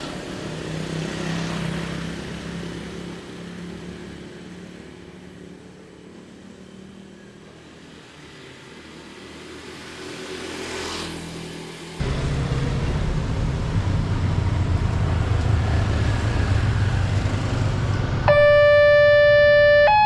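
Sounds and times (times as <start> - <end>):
low traffic hum: 0.0 - 20.0.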